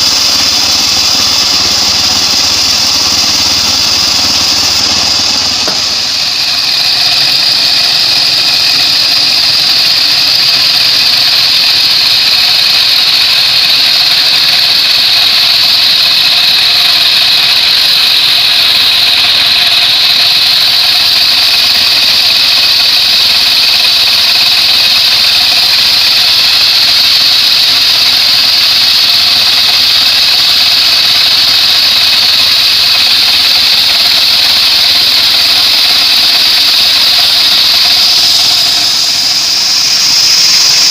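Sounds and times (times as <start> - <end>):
bandsaw sawing wood: 0.0 - 40.9.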